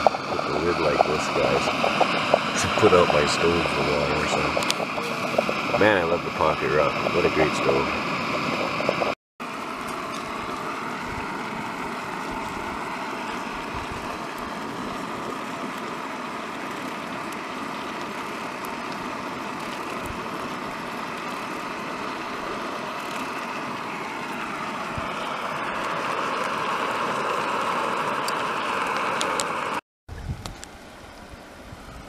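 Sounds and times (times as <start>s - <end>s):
gas stove flame hissing: 0.0s - 9.2s, 9.8s - 29.8s.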